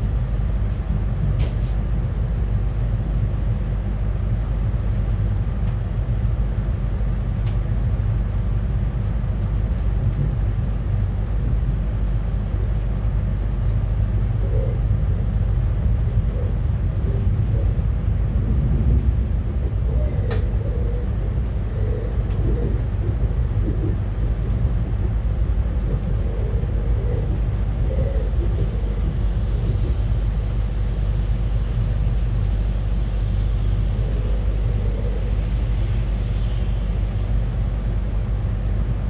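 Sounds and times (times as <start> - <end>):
train rumbling on tracks: 0.0 - 39.0.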